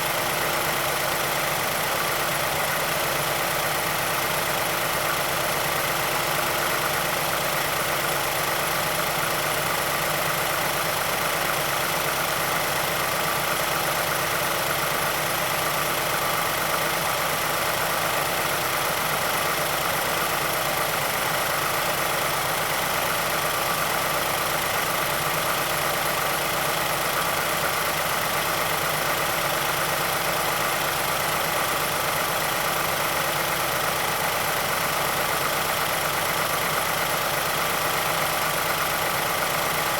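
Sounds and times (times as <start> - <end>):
car engine idling with ticking rattle: 0.0 - 39.9.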